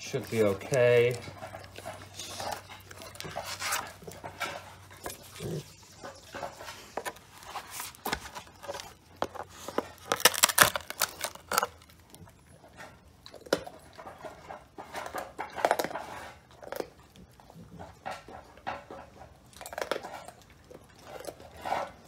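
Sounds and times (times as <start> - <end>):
dog gnawing bone: 0.0 - 22.0.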